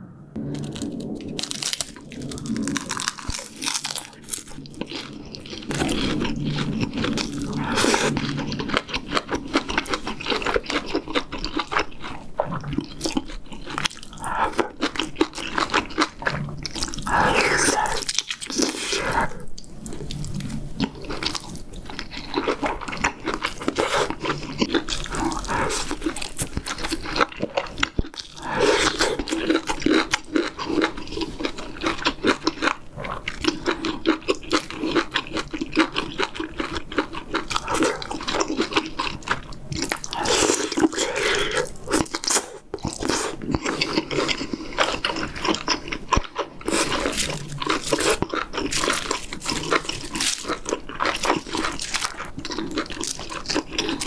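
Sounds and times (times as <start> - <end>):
chewing and biting: 0.6 - 54.0.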